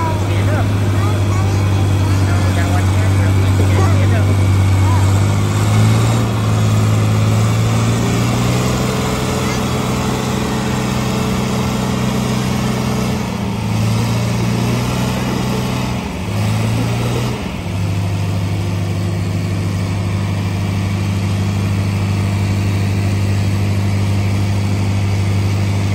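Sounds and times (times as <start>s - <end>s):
tractor engine working under load: 0.0s - 25.9s.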